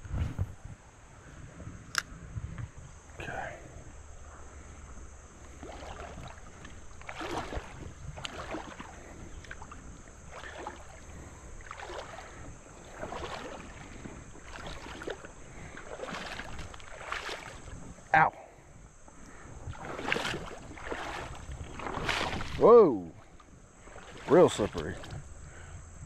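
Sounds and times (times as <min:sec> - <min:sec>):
footsteps wading through water: 0:04.5 - 0:25.5.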